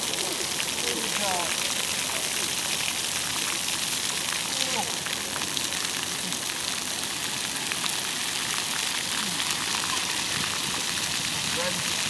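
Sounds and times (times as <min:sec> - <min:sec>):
fountain jets splashing on concrete: 0:00.0 - 0:12.0.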